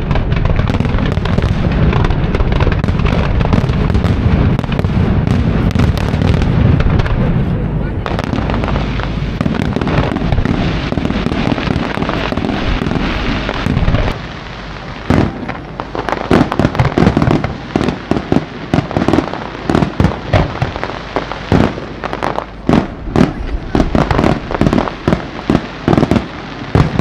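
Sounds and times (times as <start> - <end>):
fireworks crackling and rumbling: 0.0 - 27.0
fireworks sharp bangs: 0.0 - 27.0.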